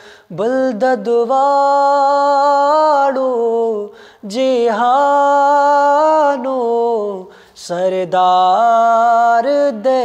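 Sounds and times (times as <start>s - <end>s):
person singing unaccompanied: 0.3s - 10.0s.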